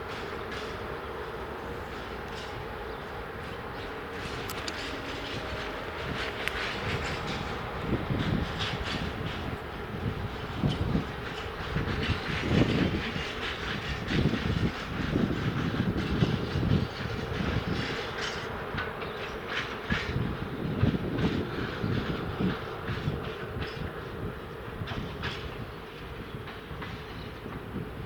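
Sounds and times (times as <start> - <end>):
train wheels clattering over rails: 0.0 - 28.0.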